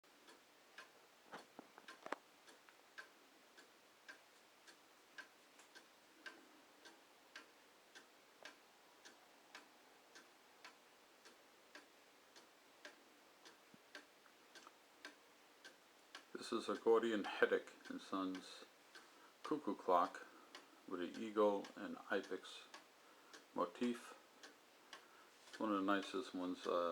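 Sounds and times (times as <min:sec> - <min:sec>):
cuckoo clock ticking: 0:00.1 - 0:26.9.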